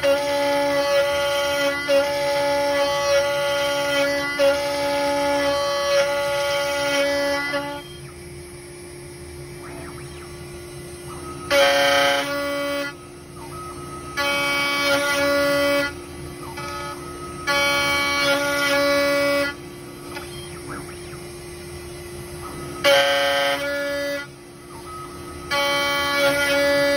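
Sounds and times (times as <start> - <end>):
router cutting wood buzzing: 0.0 - 26.9
spindle humming: 0.0 - 26.9.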